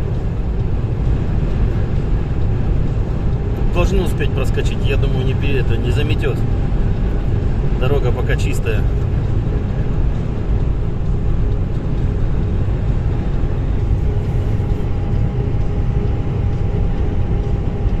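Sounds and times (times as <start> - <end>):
car interior road rumble: 0.0 - 18.0.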